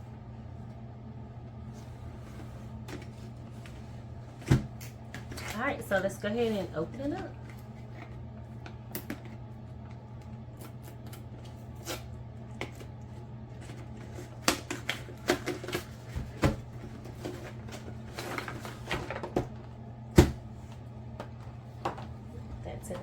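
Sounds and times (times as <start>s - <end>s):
steady low hum: 0.0s - 23.0s
cardboard and plastic rustling: 1.6s - 10.0s, 10.7s - 23.0s.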